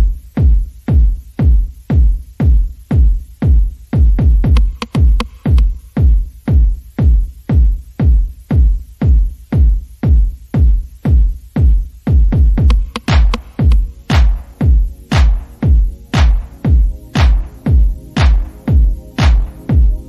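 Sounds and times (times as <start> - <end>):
electronic dance music: 0.0 - 20.0
heavy kick drum beat: 0.0 - 20.0.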